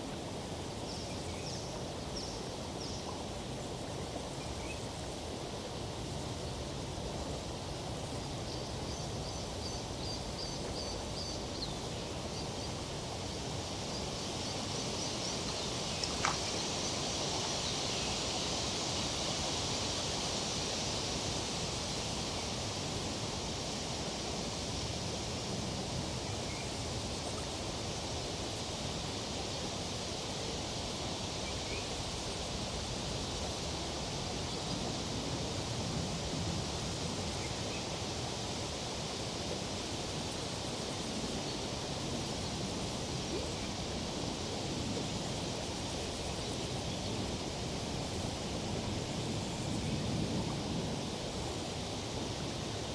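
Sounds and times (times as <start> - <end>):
tree foliage rustling in breeze: 0.0 - 52.9
flowing river water: 6.7 - 52.9.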